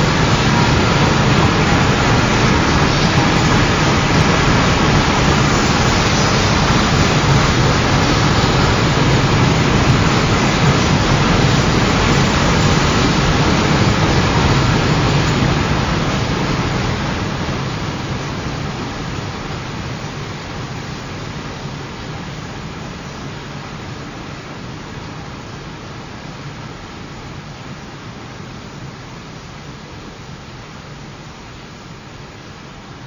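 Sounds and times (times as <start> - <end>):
train wheels rumbling on rails: 0.0 - 30.4.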